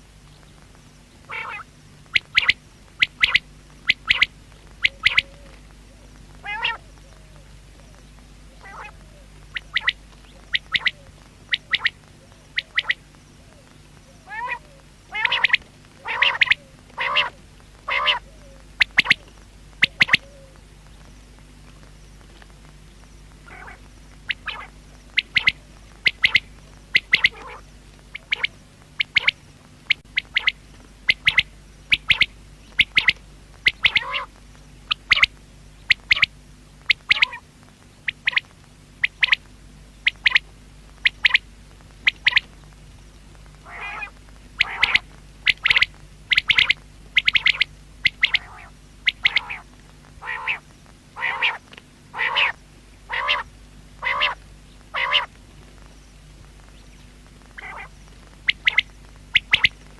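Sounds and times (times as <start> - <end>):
quail calling: 1.2 - 20.6, 23.4 - 42.5, 43.6 - 55.9, 57.4 - 59.9.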